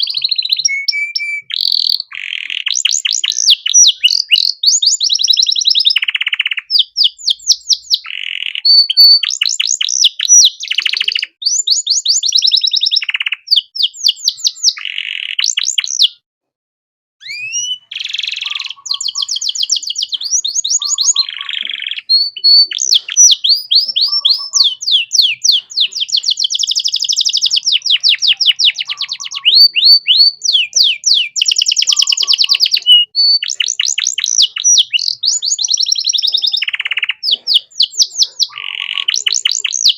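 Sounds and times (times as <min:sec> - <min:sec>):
canary singing trills: 0:00.0 - 0:16.2, 0:17.2 - 0:39.9.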